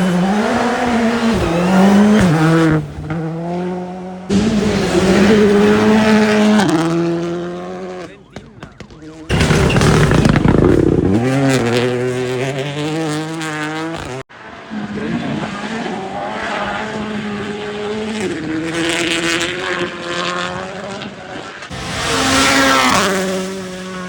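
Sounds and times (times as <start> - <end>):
rally cars revving past: 0.0 - 24.0.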